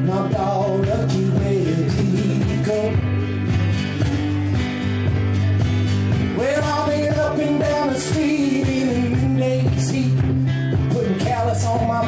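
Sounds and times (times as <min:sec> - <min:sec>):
guitar accompaniment: 0:00.0 - 0:12.0.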